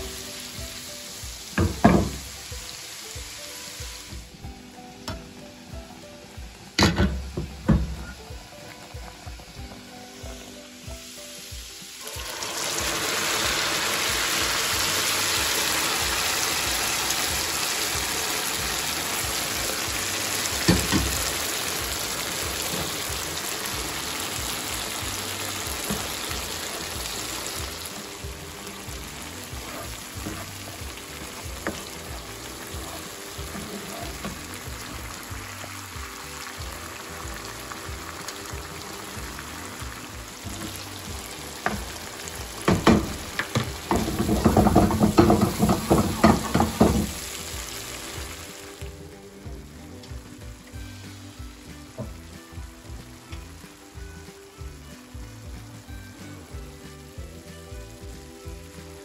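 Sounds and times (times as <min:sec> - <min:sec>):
vegetables sizzling in hot oil: 0:00.0 - 0:59.0.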